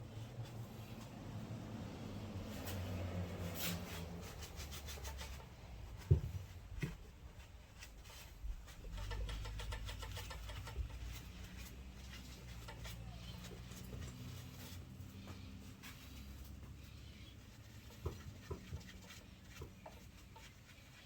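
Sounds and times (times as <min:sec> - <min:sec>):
light clicks and rubbing on metal: 0:00.1 - 0:21.0.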